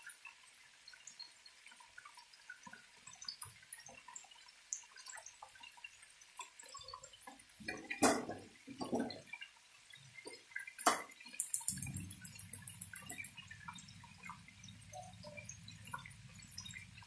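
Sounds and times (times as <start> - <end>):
sauce simmering with bubbles popping: 0.0 - 17.0.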